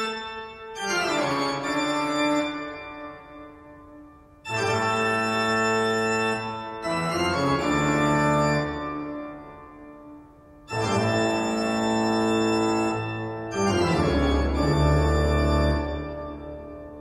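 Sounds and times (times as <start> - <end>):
slow organ chords: 0.0 - 17.0.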